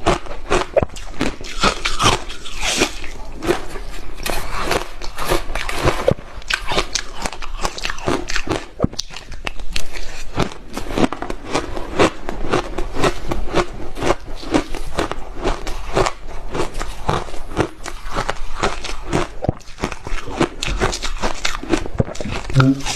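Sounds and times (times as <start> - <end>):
ice crunching being chewed: 0.0 - 22.9.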